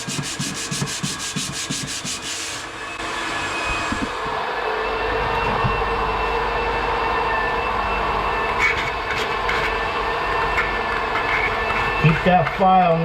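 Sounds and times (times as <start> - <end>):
floor sanding machine running: 0.0 - 13.0.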